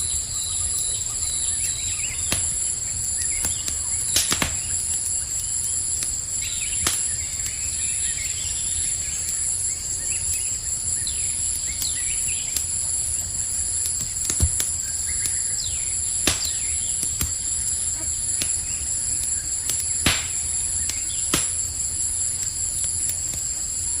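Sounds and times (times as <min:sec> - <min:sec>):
campfire crackling and popping: 0:00.0 - 0:24.0
crickets chirring: 0:00.0 - 0:24.0.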